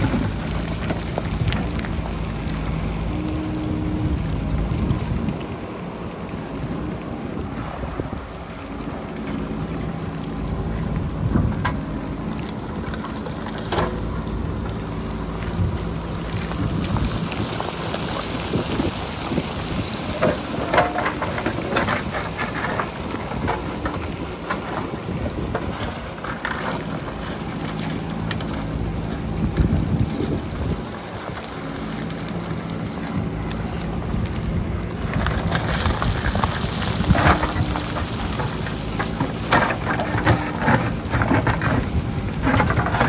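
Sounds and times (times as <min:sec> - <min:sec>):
diesel engine running under load: 0:00.0 - 0:43.0
wind rumbling on microphone: 0:00.0 - 0:43.0.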